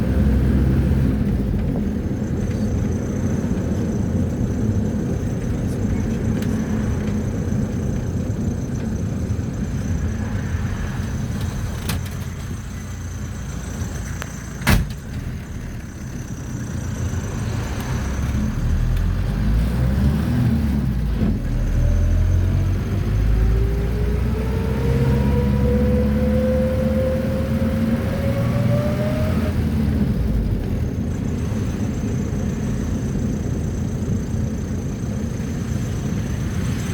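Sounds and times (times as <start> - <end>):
engine and road rumble: 0.0 - 36.9.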